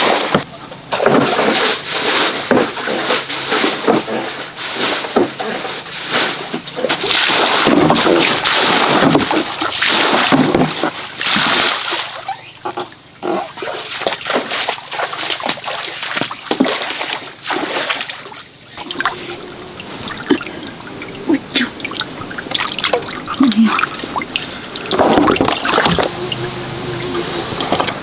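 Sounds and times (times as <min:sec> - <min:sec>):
water splashing: 0:00.0 - 0:28.0.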